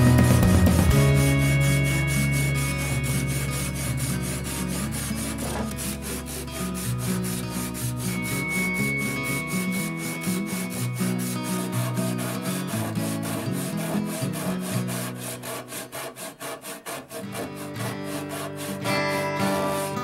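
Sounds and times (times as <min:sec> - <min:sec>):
saw rasping through wood: 0:00.0 - 0:20.0.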